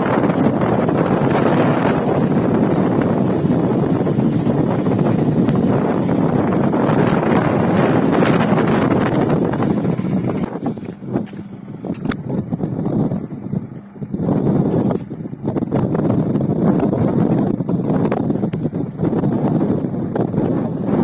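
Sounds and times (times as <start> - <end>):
tractor diesel engine running: 0.0 - 21.0
wind buffeting microphone: 0.0 - 21.0.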